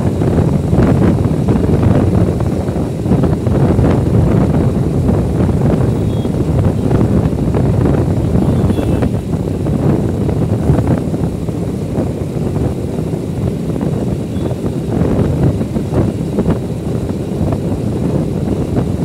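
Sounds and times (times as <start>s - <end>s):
low motorbike rumble: 0.0s - 19.0s
wind buffeting microphone: 0.0s - 19.0s.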